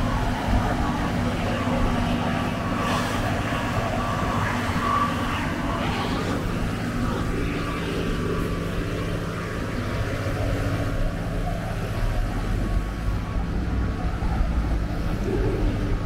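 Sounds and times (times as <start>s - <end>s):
road noise: 0.0s - 16.0s
vehicle engines humming: 0.0s - 16.0s.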